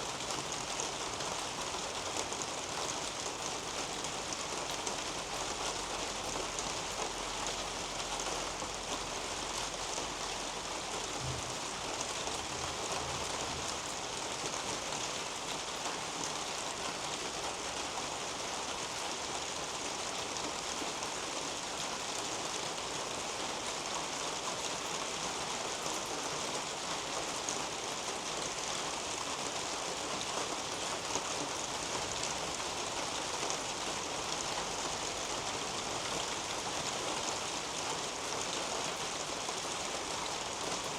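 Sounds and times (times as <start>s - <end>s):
rain on leaves and roof: 0.0s - 40.9s.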